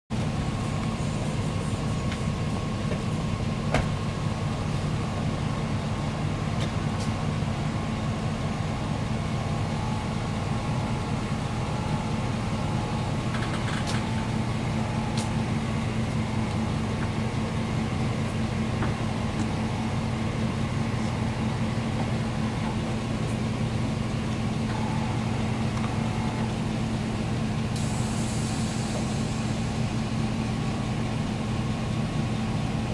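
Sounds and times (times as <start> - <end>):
vehicle engine idling: 0.1 - 32.9.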